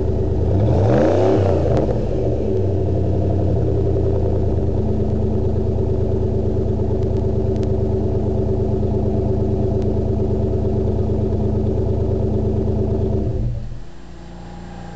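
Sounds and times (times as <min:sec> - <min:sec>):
car exhaust idling: 0:00.0 - 0:14.9.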